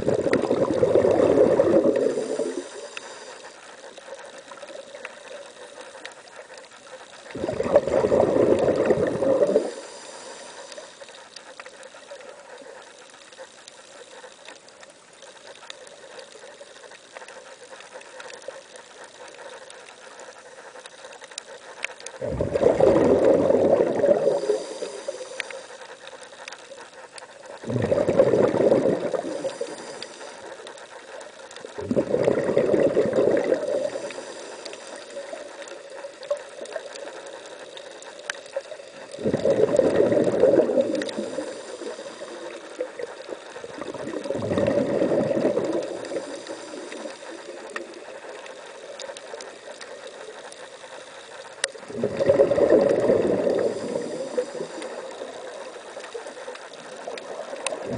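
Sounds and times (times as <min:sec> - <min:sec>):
steady hiss: 0:00.0 - 0:57.9
underwater exhaust bubbles: 0:00.0 - 0:57.9.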